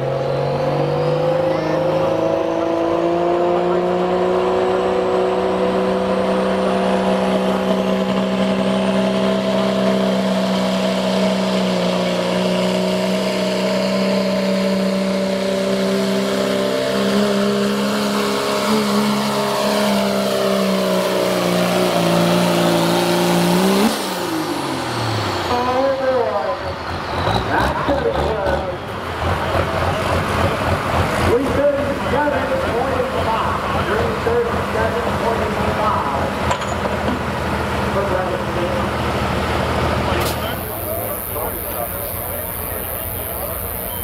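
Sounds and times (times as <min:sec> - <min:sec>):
diesel engine at high revs: 0:00.0 - 0:44.0.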